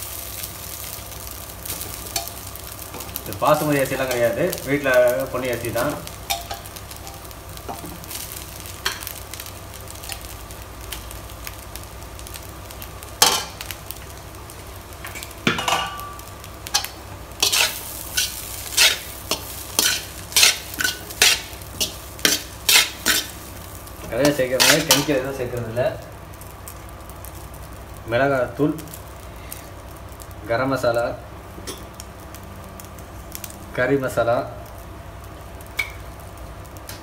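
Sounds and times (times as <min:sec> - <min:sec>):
food sizzling in a wok: 0:00.0 - 0:37.0.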